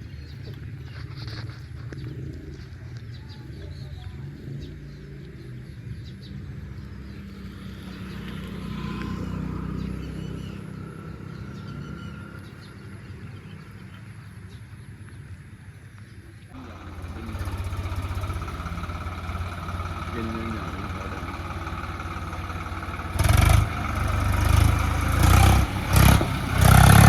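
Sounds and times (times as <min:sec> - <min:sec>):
tractor diesel engine under load: 0:00.0 - 0:14.2, 0:16.5 - 0:27.0.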